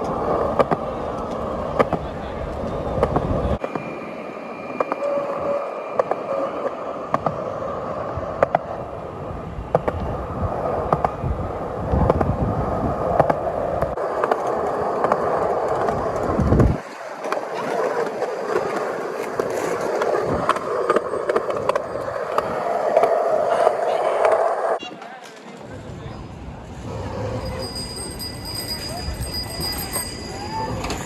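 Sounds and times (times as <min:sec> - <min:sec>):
skate wheels rolling on pavement: 0:00.0 - 0:31.0.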